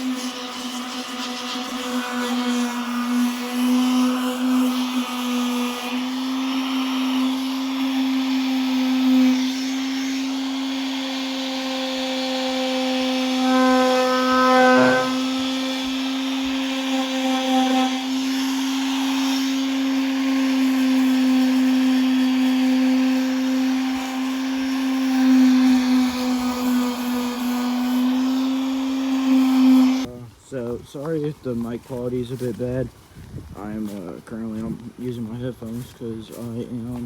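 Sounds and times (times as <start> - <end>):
electric sander on metal: 0.0 - 32.8, 33.8 - 37.0.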